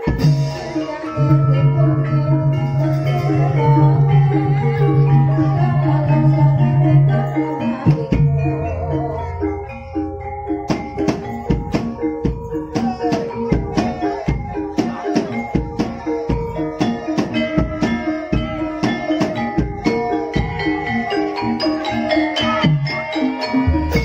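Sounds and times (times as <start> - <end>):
drum beating steadily: 0.0 - 24.0
struck metallophone tones: 0.0 - 24.0.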